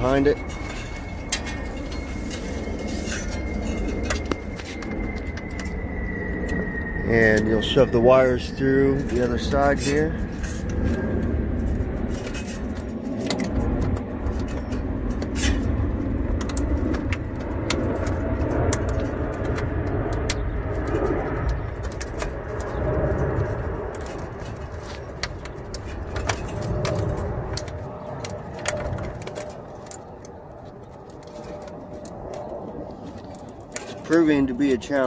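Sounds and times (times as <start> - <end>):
clicks and rustling of wires: 0.0 - 35.0
low rumble: 0.0 - 35.0.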